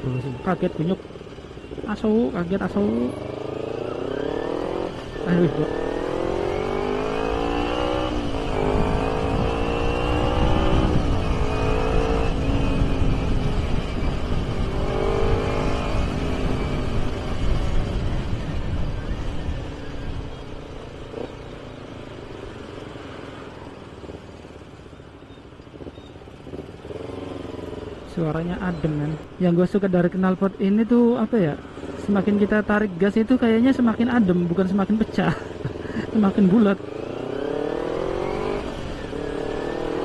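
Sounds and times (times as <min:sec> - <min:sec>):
motorcycle engine accelerating: 0:00.0 - 0:24.8, 0:25.6 - 0:29.3, 0:33.7 - 0:40.0.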